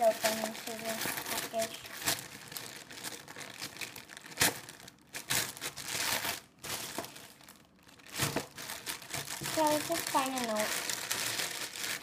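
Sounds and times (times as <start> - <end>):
package wrapping crinkling: 0.0 - 12.0.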